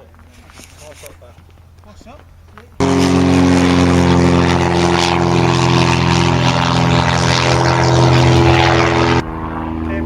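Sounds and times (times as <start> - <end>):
propeller airplane engine droning: 1.6 - 10.0.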